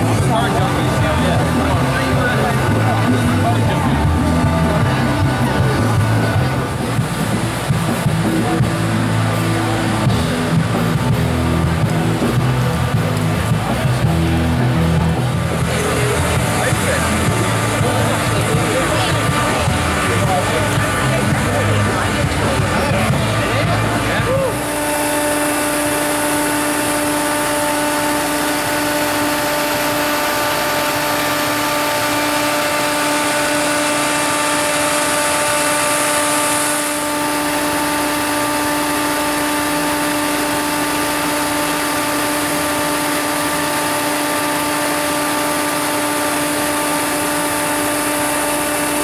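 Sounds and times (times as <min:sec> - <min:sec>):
machine hum: 0:00.0 - 0:49.0.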